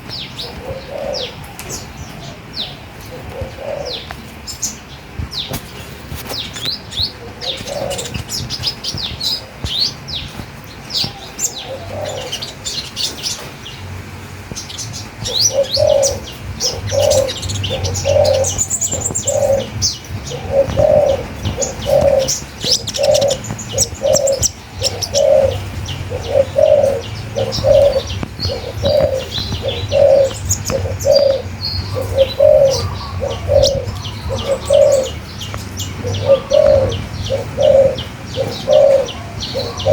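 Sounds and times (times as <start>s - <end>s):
birds chirping and twittering: 0.0s - 39.9s
low repeated bird call: 0.0s - 39.9s.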